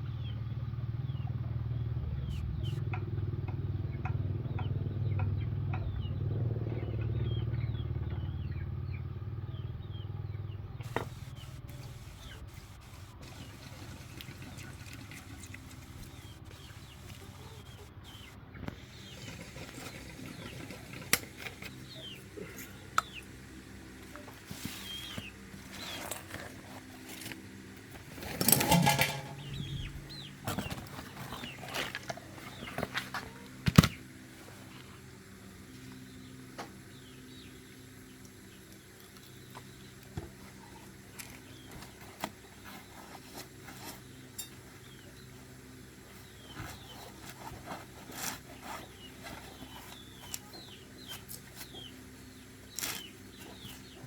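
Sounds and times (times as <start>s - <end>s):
birds chirping: 0.0s - 3.0s, 3.7s - 54.0s
engine running low: 0.0s - 54.0s.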